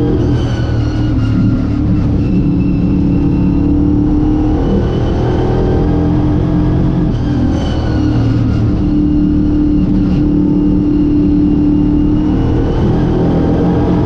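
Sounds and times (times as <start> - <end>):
race car engine running hard: 0.0 - 14.0.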